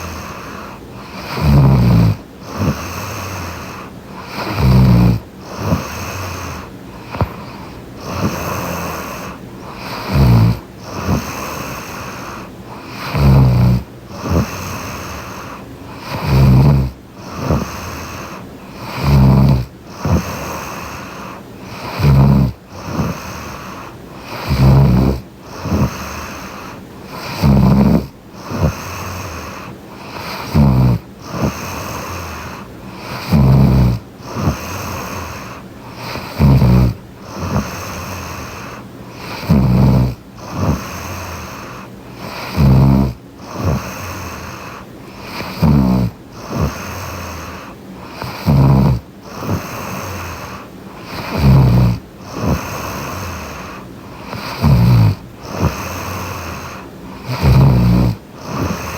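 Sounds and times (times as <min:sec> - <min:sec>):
soft breathing: 0:00.0 - 0:58.9
woman snoring: 0:00.0 - 0:58.9.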